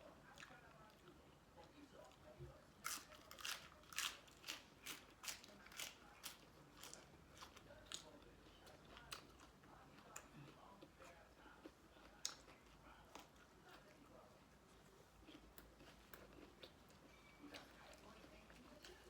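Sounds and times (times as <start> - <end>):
crunchy chewing: 0.3 - 19.0.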